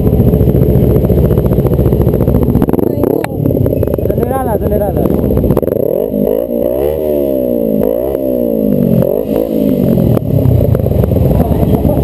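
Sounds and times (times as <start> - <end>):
motorcycle engine revving: 0.0 - 12.0
motorcycles idling: 0.0 - 12.0.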